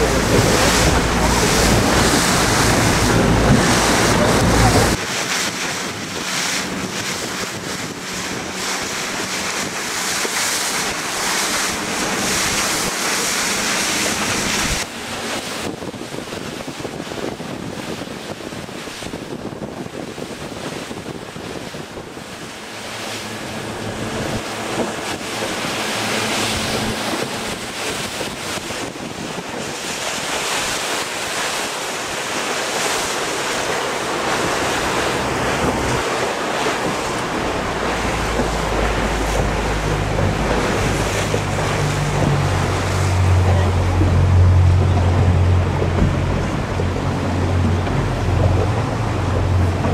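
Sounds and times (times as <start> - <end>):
water rushing past boat: 0.0 - 49.9
wind buffeting microphone: 0.0 - 49.9.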